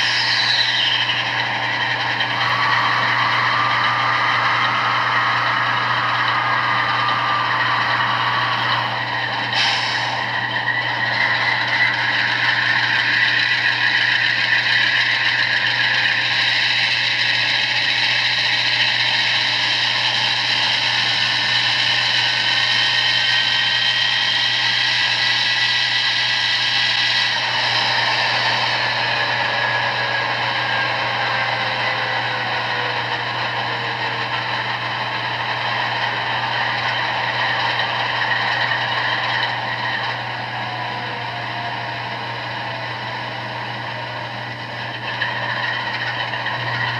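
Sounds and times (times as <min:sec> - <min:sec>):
diesel locomotive engine drone: 0:00.0 - 0:46.9.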